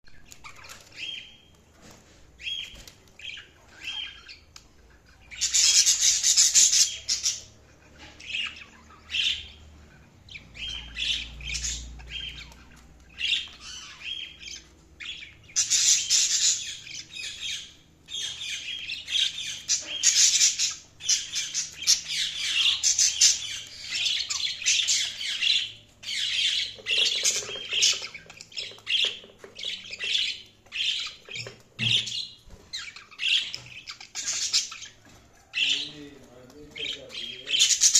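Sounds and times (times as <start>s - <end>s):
budgerigars chirping and chattering: 0.1s - 37.9s.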